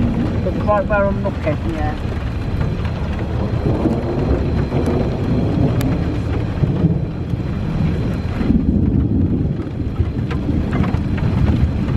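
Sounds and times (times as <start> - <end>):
low rumble of thunder: 0.0 - 11.9
raindrops ticking: 0.0 - 11.9.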